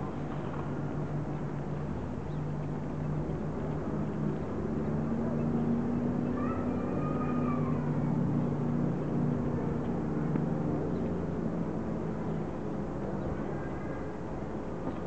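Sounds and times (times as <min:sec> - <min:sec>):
low mechanical drone: 0:00.0 - 0:15.0
outdoor background noise: 0:00.0 - 0:15.0.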